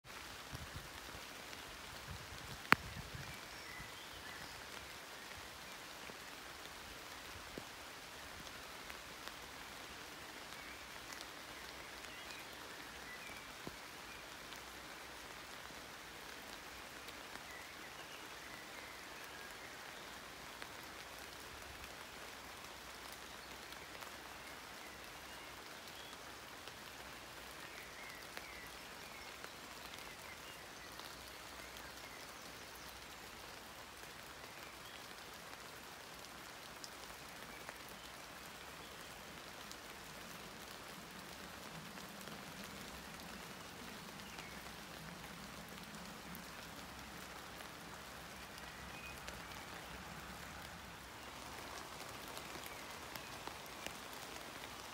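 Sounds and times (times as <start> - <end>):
rain on leaves: 0.0 - 54.9.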